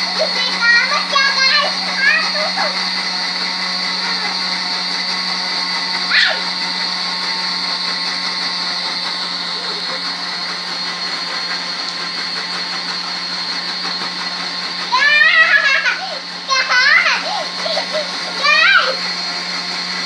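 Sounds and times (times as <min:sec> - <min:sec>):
electric blender motor whine: 0:00.0 - 0:20.0.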